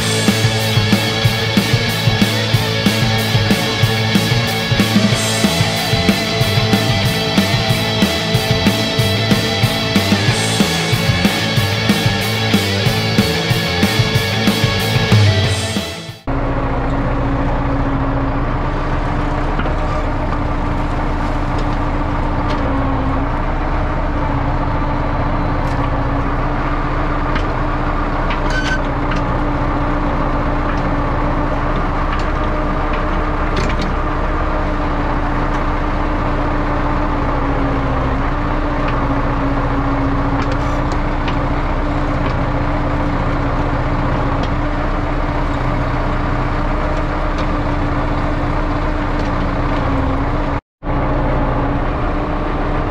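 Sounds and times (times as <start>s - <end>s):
diesel excavator engine running: 0.0s - 52.9s.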